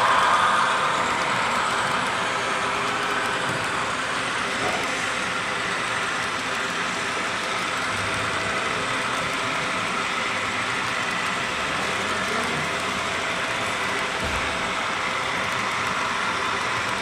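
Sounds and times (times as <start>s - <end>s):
model trains humming and hissing: 0.0s - 17.0s.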